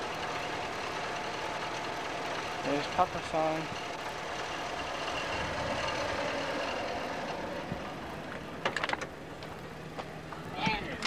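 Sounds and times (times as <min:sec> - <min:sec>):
motor vehicle running: 0:00.0 - 0:11.0.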